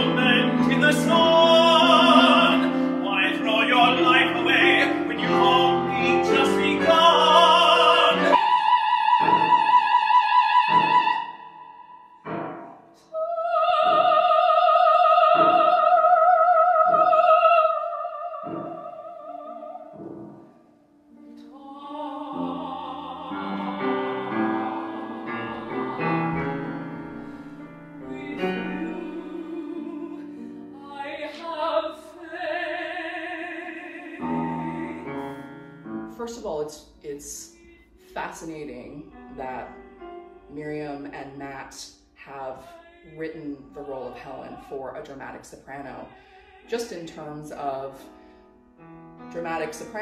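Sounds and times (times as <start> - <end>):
operatic soprano singing: 0.0 - 12.2, 13.0 - 20.6, 21.2 - 39.8, 40.4 - 48.2
piano accompaniment: 0.0 - 50.0.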